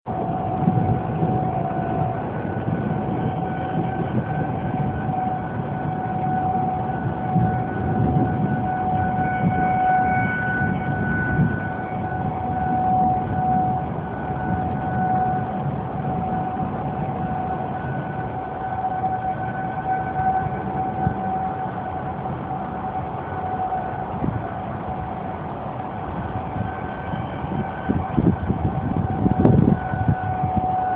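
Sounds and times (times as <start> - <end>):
low rumbling noise: 0.0 - 30.9
warning siren wailing: 0.0 - 30.9.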